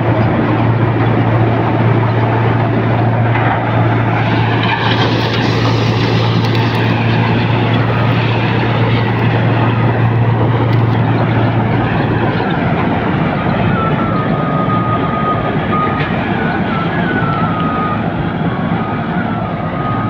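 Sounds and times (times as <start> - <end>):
straw reaper machinery rushing: 0.0 - 20.0
tractor engine under load: 0.0 - 20.0.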